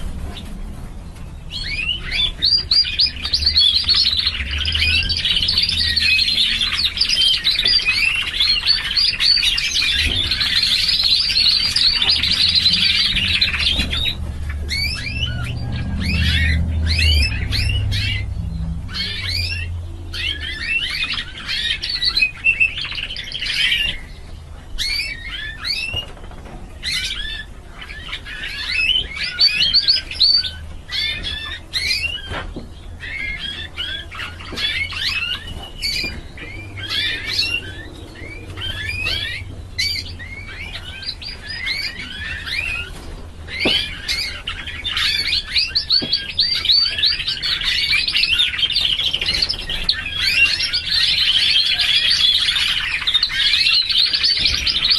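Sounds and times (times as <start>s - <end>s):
canary trills and chirps: 0.0s - 54.9s
steady low hum: 0.0s - 54.9s.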